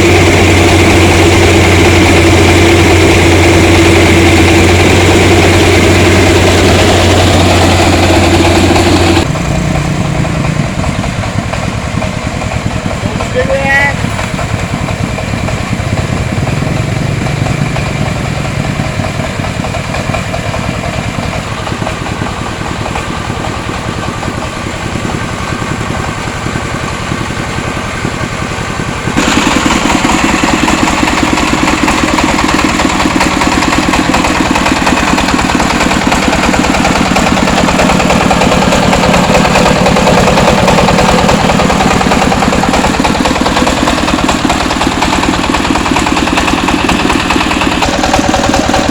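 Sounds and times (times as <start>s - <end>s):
rice huller engine running: 0.0s - 48.9s.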